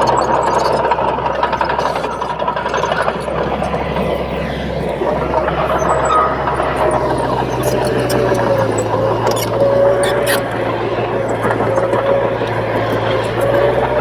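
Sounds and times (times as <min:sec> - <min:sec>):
bulldozer diesel engine running: 0:00.0 - 0:14.0
mechanical clatter: 0:00.0 - 0:14.0.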